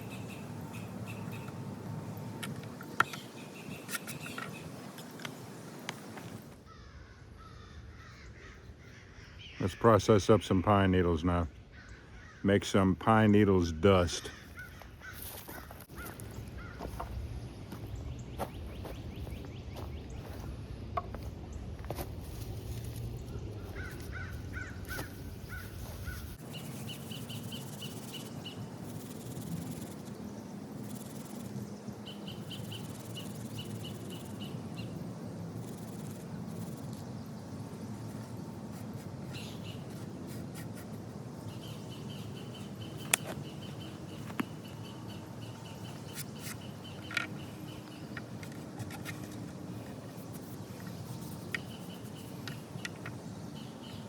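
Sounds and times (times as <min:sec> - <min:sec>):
birds calling: 0:00.0 - 0:20.6, 0:22.9 - 0:54.0
steady outdoor hiss: 0:00.0 - 0:54.0.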